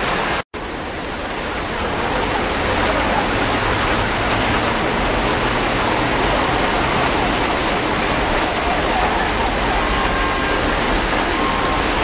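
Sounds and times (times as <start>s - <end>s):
heavy rain on water: 0.0s - 12.0s.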